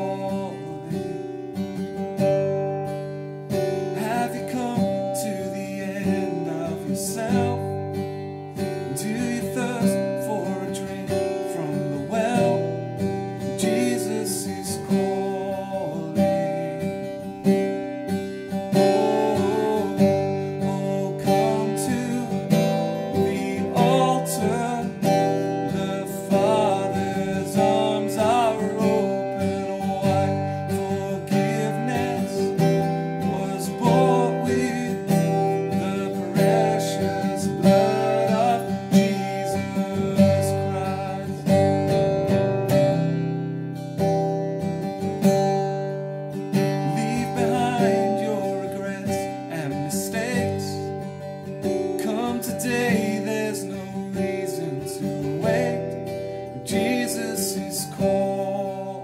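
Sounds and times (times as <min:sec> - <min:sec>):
man singing: 0:00.0 - 0:01.8, 0:03.8 - 0:07.8, 0:08.6 - 0:43.1, 0:46.6 - 0:59.0
acoustic guitar strumming: 0:00.0 - 0:59.0.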